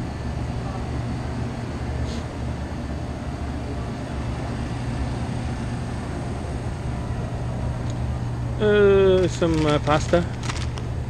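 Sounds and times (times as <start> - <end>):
refrigerated cases electrical hum: 0.0 - 11.0
store background hum and hiss: 0.0 - 11.0.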